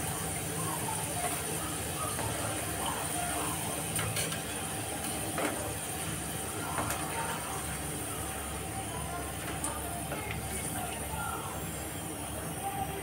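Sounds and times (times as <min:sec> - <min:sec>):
fries sizzling in hot oil: 0:00.0 - 0:13.0.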